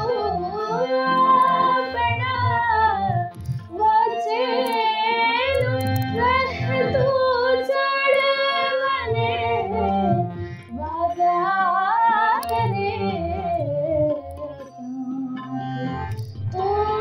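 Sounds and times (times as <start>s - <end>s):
woman singing: 0.0s - 14.6s, 16.5s - 17.0s
low musical accompaniment: 0.0s - 17.0s.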